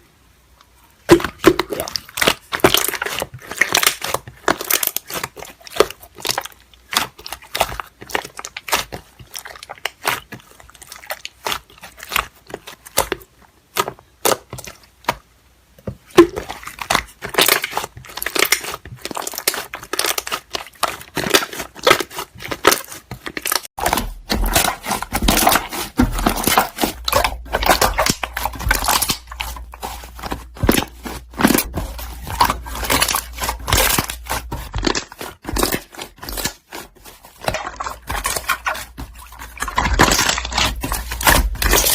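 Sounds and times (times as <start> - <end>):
slime crackling and popping: 1.1 - 15.2, 16.1 - 41.9.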